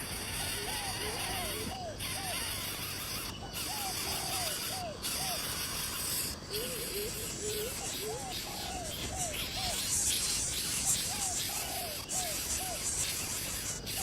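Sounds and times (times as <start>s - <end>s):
insect hiss: 0.0s - 14.0s.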